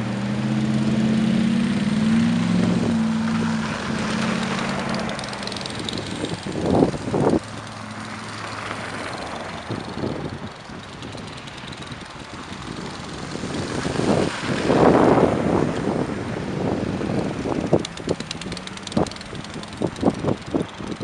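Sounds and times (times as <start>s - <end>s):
constant noisy rush: 0.0s - 21.0s
vehicle engine humming: 0.0s - 21.0s.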